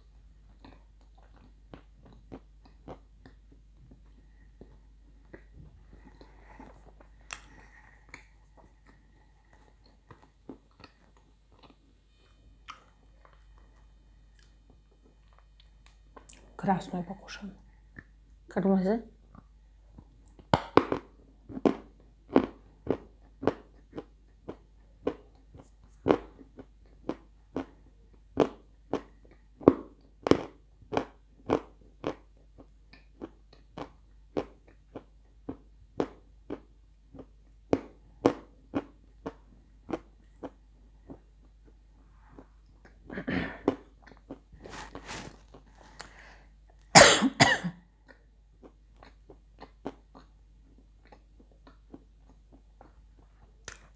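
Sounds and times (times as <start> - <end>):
clay being chewed crunching: 0.4 - 11.9, 19.3 - 46.9, 48.0 - 53.9.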